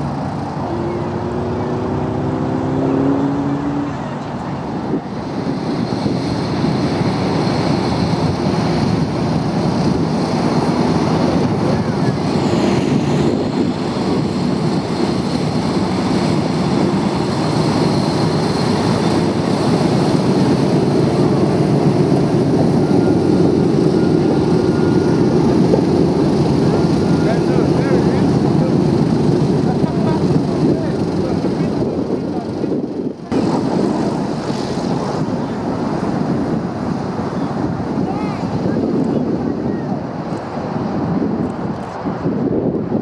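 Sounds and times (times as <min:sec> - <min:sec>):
propeller aircraft engines droning: 0:00.0 - 0:43.0.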